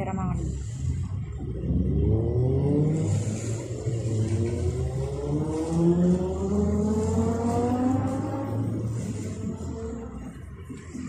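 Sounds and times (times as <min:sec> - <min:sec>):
low engine drone: 0:00.0 - 0:11.0
jet ski engines revving: 0:00.3 - 0:11.0.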